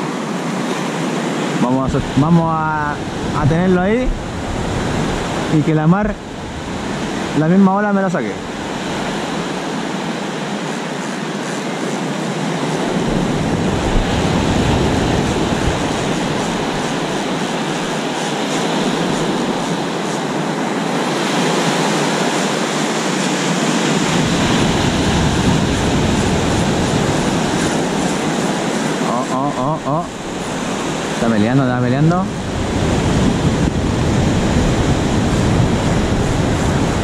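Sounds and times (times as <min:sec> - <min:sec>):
ocean surf breaking: 0:00.0 - 0:37.0
wind on microphone: 0:00.0 - 0:37.0.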